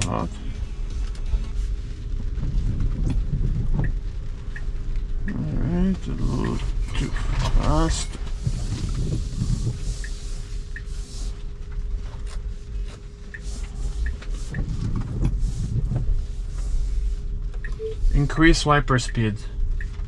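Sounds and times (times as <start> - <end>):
tyre and road rumble: 0.0 - 10.0, 11.5 - 18.2
thin constant hum: 0.0 - 20.0.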